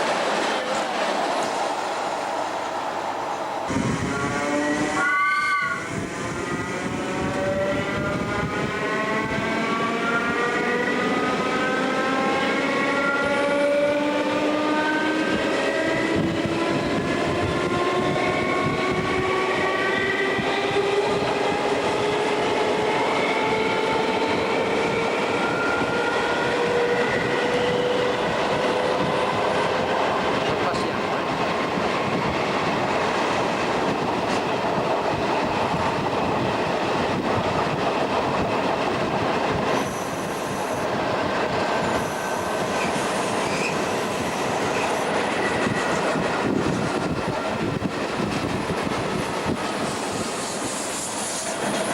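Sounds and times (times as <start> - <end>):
train wheels rumbling on rails: 0.0 - 51.9
train whine rising in pitch: 1.4 - 30.4, 31.6 - 51.9.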